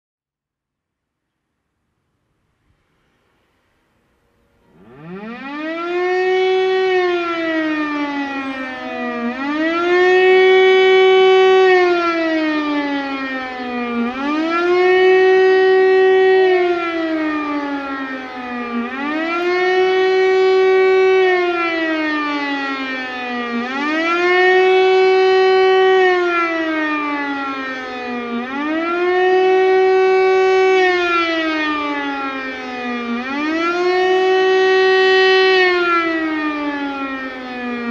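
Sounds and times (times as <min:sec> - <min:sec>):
air-raid siren wailing: 0:04.4 - 0:37.9.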